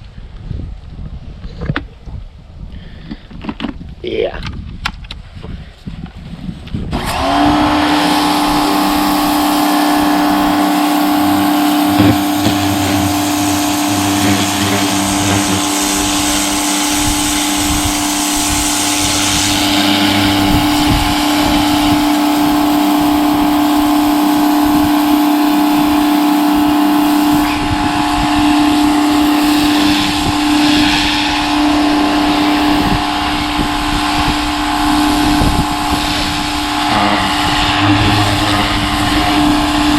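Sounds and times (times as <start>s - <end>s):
pressure washer motor hum: 7.0s - 39.9s
water hissing from nozzle: 7.0s - 39.9s.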